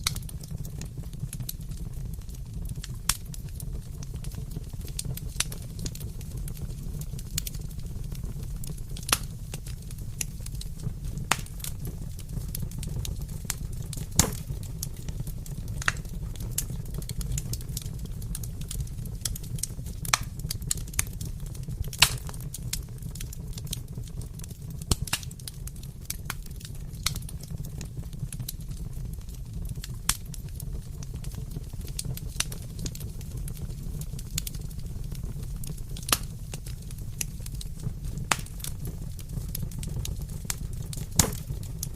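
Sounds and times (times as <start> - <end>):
fire crackles and pops: 0.0 - 41.9
wood fire rumbling: 0.0 - 41.9.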